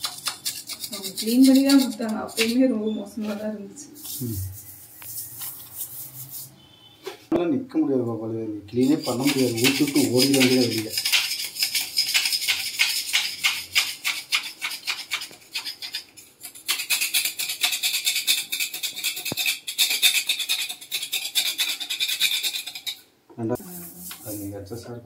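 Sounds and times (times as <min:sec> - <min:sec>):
brush scrubbing tiles: 0:00.0 - 0:02.6, 0:04.0 - 0:06.5, 0:08.8 - 0:23.0, 0:23.6 - 0:24.5.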